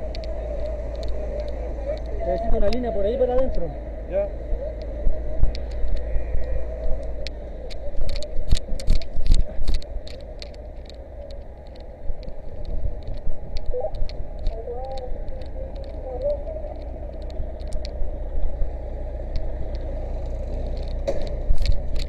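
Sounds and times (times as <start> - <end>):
low rumble: 0.0 - 22.0
sharp clicks and crackles: 0.0 - 22.0.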